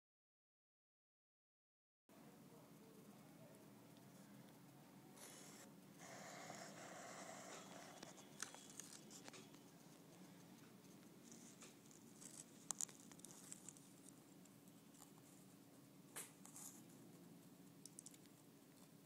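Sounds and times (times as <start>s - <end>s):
faint room hum: 2.1s - 19.0s.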